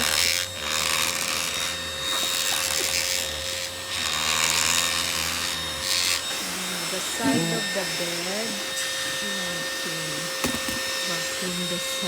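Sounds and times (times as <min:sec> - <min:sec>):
vacuum cleaner motor hum: 0:00.0 - 0:12.0.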